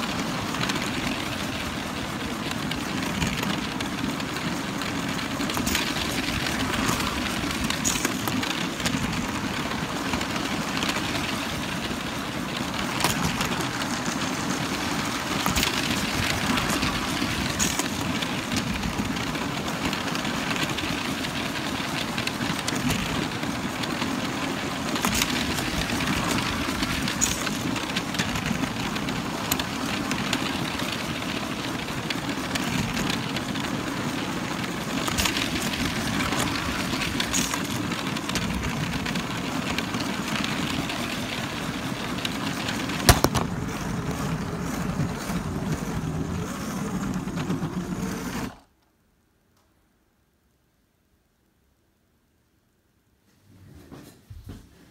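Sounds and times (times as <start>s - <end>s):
toy train wheels rattling: 0.0s - 48.6s.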